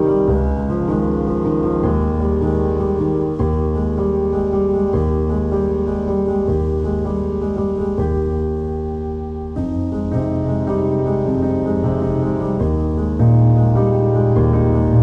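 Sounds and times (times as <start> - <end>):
piano sustained chords: 0.0 - 15.0.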